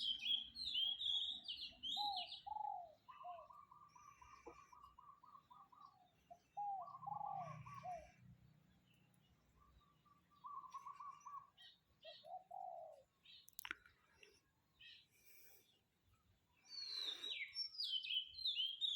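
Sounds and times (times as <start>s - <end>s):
birds calling: 0.0s - 15.9s, 16.5s - 18.9s.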